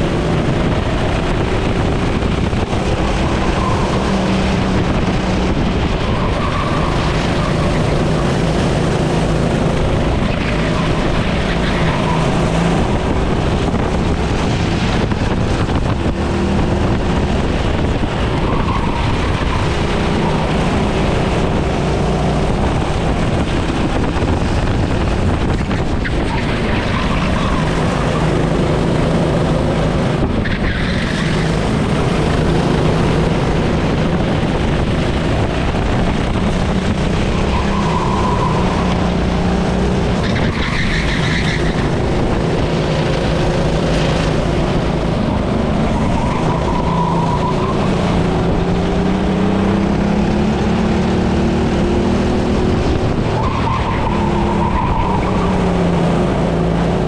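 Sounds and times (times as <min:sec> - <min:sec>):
racing kart engine revving: 0:00.0 - 0:57.0.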